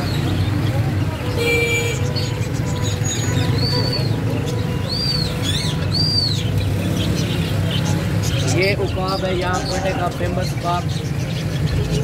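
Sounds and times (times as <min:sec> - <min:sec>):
songbirds chirping: 0:00.0 - 0:12.0
street traffic rumble: 0:00.0 - 0:12.0.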